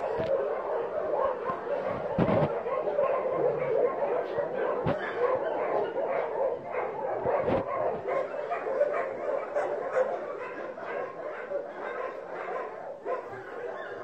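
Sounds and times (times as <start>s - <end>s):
dogs vocalising: 0.0s - 14.0s.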